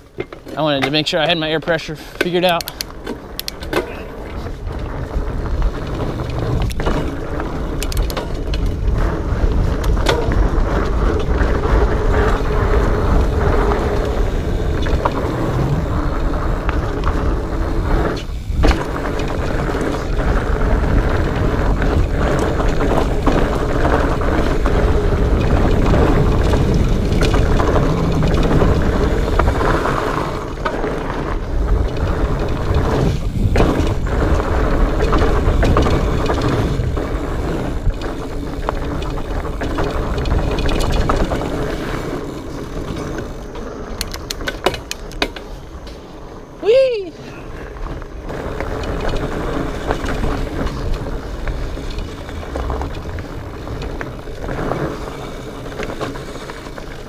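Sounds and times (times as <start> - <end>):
bike rattling over rocks: 0.0 - 57.0
fat bike tyres rolling on trail: 0.0 - 57.0.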